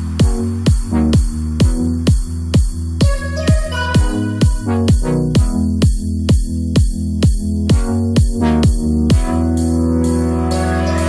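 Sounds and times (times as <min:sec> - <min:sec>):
kick drum: 0:00.0 - 0:09.8
electronic music: 0:00.0 - 0:11.0.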